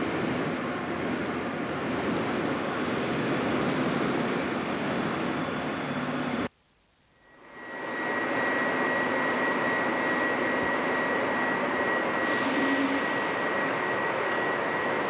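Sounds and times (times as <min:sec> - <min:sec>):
train running: 0:00.0 - 0:06.5, 0:07.4 - 0:15.0.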